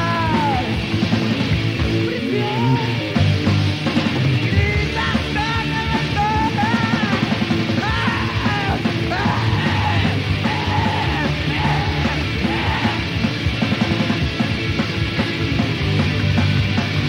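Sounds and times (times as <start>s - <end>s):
heavy metal song: 0.0s - 17.0s.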